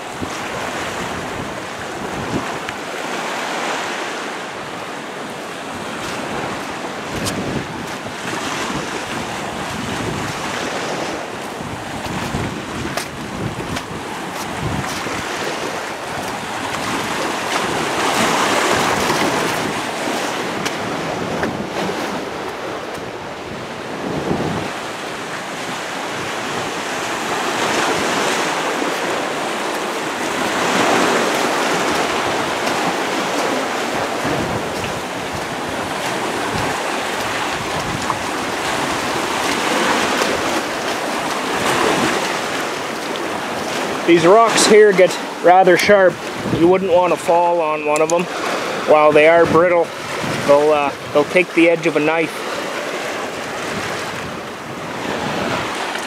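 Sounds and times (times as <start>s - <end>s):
wind buffeting microphone: 0.0s - 2.9s, 4.6s - 47.2s, 48.2s - 51.4s, 52.1s - 56.0s
waves washing over rocks: 0.0s - 56.0s.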